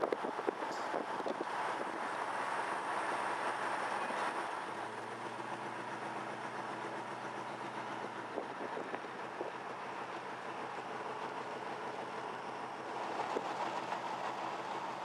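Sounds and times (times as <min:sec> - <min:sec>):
low engine hum: 0:00.0 - 0:15.0
vehicle road noise: 0:00.0 - 0:15.0.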